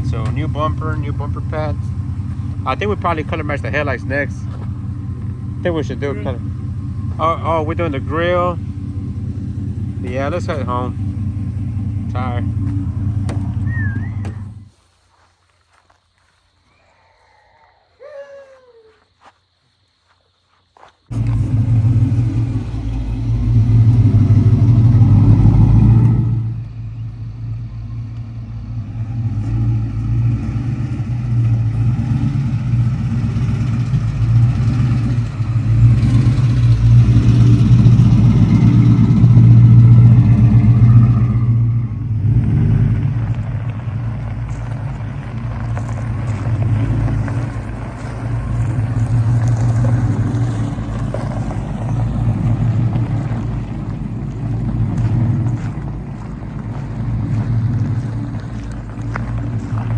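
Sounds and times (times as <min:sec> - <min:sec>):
vehicle engine running: 0:00.0 - 0:15.0, 0:21.1 - 0:59.9.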